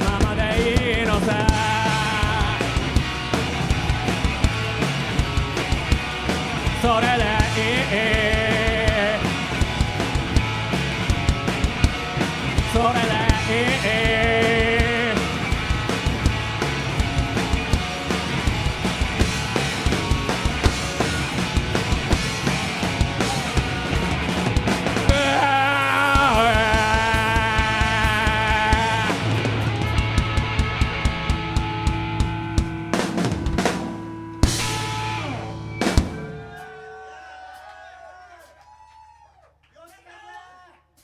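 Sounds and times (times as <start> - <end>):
drum kit beat: 0.0 - 36.8
held guitar lines: 0.0 - 36.9
live rock band playing: 0.0 - 37.0.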